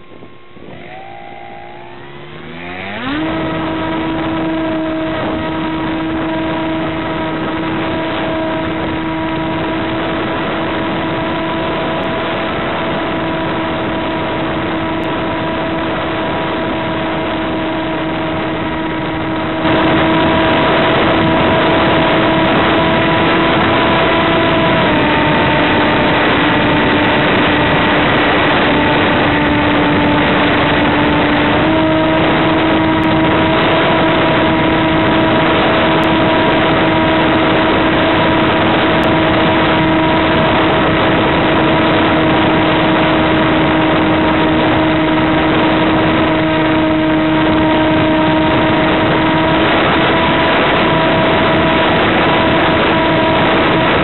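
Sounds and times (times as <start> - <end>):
electric motor and propeller whine: 0.0 - 54.0.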